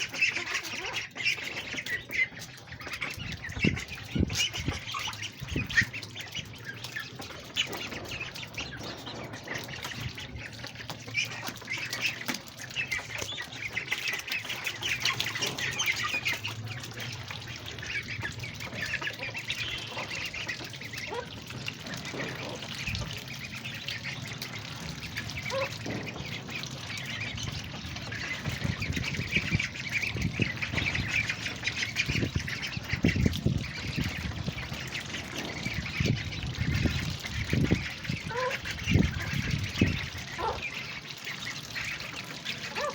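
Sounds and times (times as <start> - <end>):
ducklings peeping: 0.0 - 42.9.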